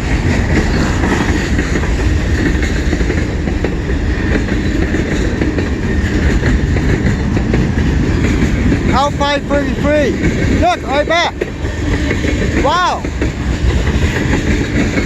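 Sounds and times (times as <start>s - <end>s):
freight train rumbling: 0.0s - 15.0s
wheels clacking over rails: 0.0s - 15.0s.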